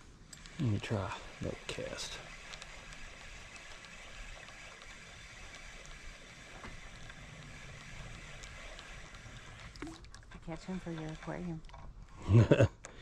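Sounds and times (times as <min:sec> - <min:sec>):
water: 0:00.0 - 0:13.0
wind: 0:00.0 - 0:13.0
faint ticks: 0:00.3 - 0:12.2.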